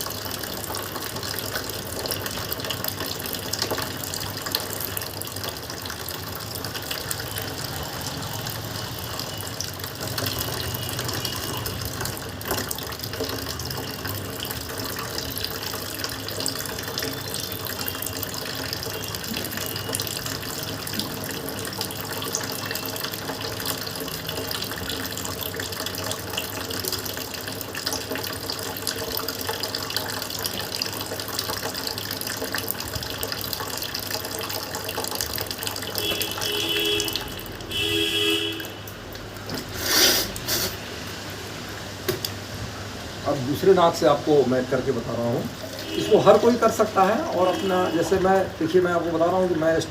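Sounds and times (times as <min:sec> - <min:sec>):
water running through nose: 0:00.0 - 0:41.0, 0:44.7 - 0:49.9.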